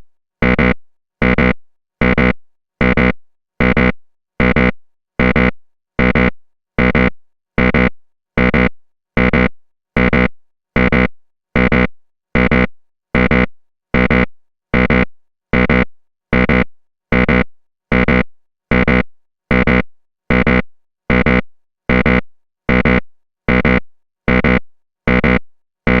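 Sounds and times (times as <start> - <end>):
wrong-answer buzzer: 0.0 - 26.0.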